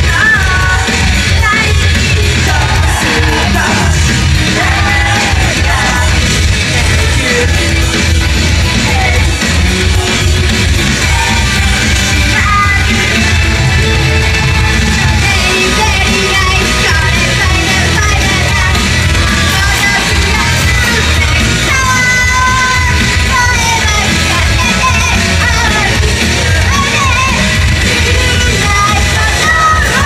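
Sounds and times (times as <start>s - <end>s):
crowd shouting: 0.0s - 30.0s
live pop-rock music: 0.0s - 30.0s.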